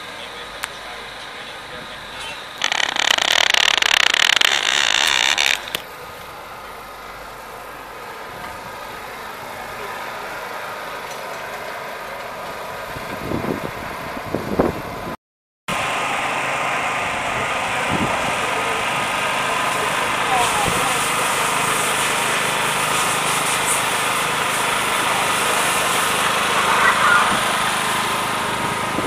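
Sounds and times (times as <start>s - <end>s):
hum of engines and machinery: 0.0s - 29.0s.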